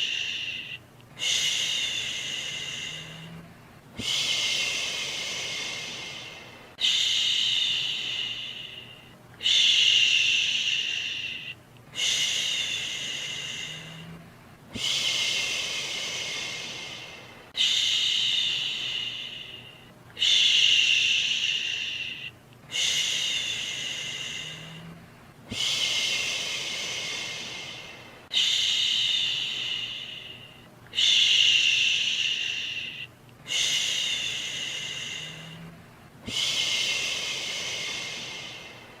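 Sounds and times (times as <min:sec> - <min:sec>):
person shushing: 0:00.0 - 0:39.0.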